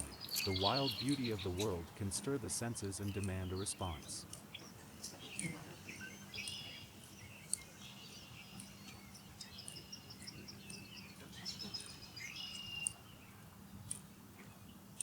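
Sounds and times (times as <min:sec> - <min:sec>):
birds chirping: 0:00.0 - 0:15.0
faint steady hum: 0:00.0 - 0:15.0.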